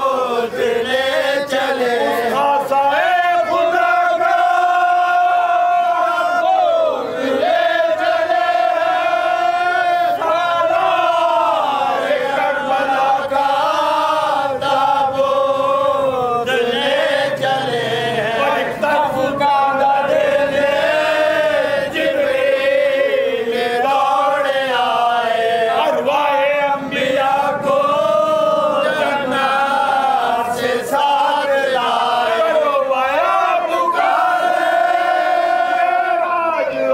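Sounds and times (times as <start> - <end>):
men chanting elegy: 0.0 - 36.9.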